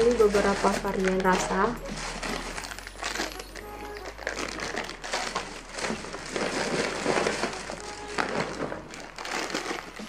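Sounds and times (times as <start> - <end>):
plastic wrappers crinkling: 0.0 - 10.0.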